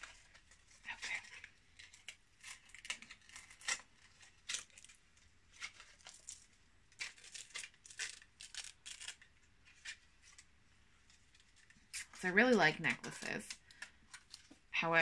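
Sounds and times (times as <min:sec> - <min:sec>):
cardboard card rustling: 0:00.0 - 0:14.7.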